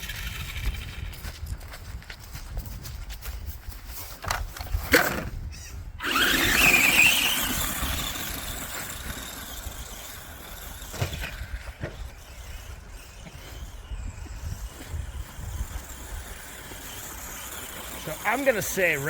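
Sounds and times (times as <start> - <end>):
toy truck electric motor whining: 0.0 - 1.2, 5.0 - 19.0.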